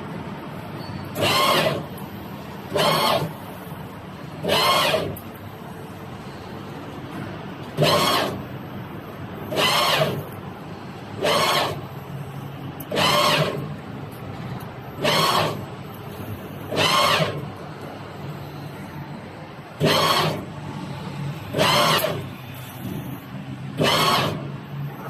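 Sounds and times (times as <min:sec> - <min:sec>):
loud mechanical whirr: 0:00.0 - 0:25.0.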